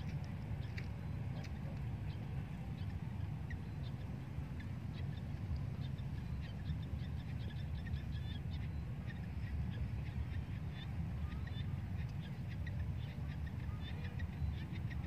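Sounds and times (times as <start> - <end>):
bird chirps: 0.0 - 15.0
wind rumbling on microphone: 0.0 - 15.0.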